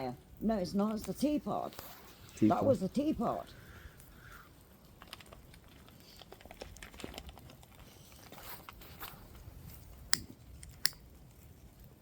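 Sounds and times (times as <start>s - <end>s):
faint irregular crackles and ticks: 0.8s - 12.0s.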